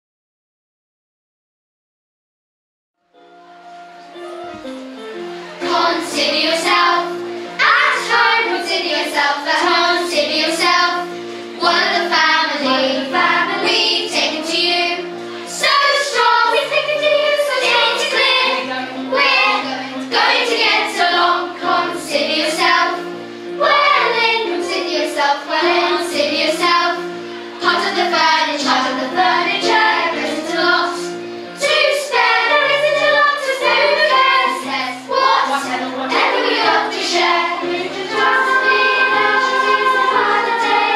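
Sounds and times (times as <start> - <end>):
instrumental accompaniment: 3.0 - 40.9
children's choir singing: 3.7 - 40.9.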